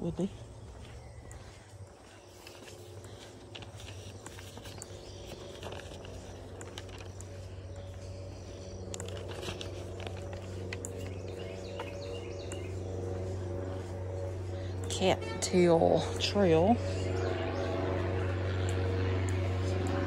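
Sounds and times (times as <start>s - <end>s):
footsteps on outdoor path: 0.0s - 20.0s
steady low hum: 0.0s - 20.0s.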